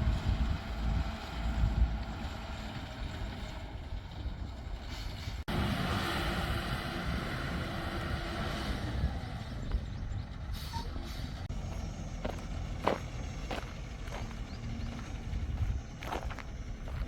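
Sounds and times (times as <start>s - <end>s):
wind rumble on microphone: 0.0s - 11.5s, 12.8s - 17.0s
diesel engines of farm machinery: 0.0s - 17.0s.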